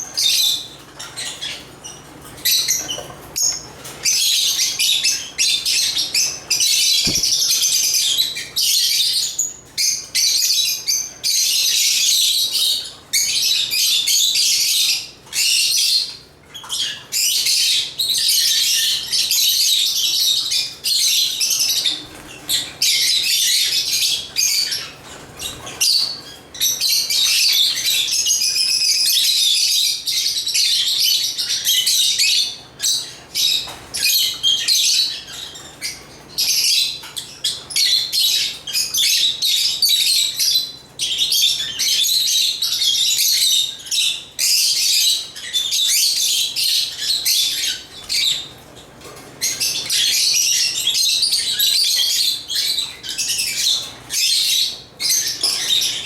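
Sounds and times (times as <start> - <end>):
lovebirds chirping: 0.1 - 16.0, 18.4 - 56.0.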